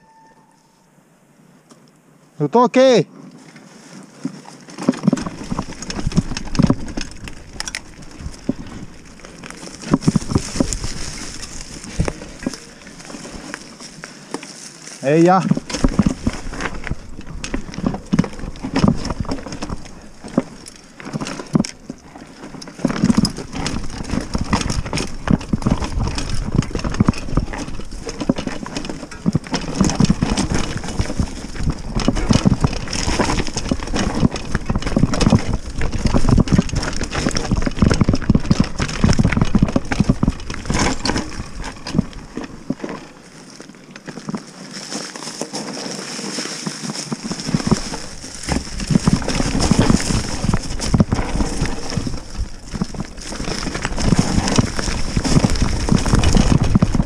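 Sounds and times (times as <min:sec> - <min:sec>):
tyre and trail rumble: 0:02.5 - 0:57.0
bike clattering over rocks: 0:03.5 - 0:57.0.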